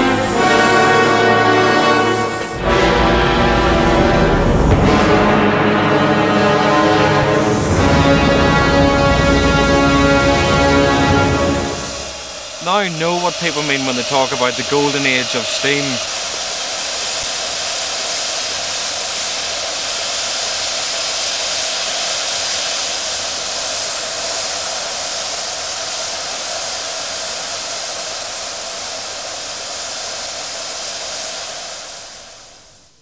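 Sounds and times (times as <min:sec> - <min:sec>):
model locomotive steam hissing: 0:00.0 - 0:33.0.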